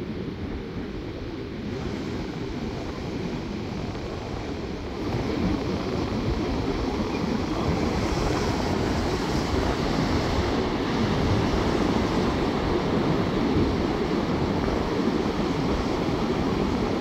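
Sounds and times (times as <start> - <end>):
ocean surf breaking: 1.6 - 17.0.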